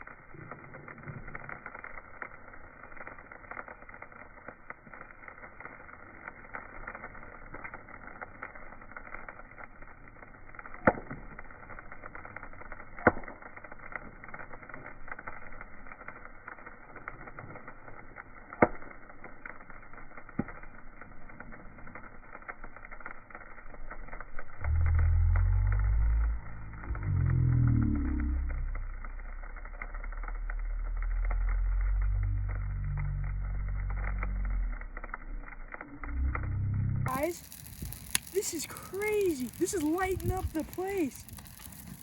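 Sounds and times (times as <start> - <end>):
bonfire crackling: 0.0 - 42.0
fire popping: 0.0 - 42.0.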